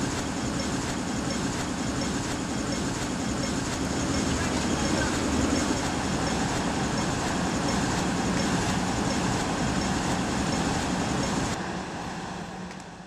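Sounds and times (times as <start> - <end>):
city street traffic: 2.4 - 13.0.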